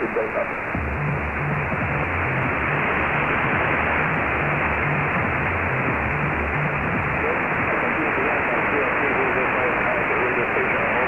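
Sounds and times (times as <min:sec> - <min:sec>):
faint low murmur: 0:00.0 - 0:11.0
radio hiss and static: 0:00.0 - 0:11.0.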